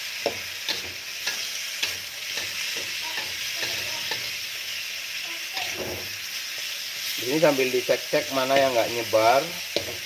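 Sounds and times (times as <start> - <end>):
food sizzling in oil: 0.0 - 10.0
metal spatula scraping wok: 0.2 - 4.9, 5.5 - 10.0.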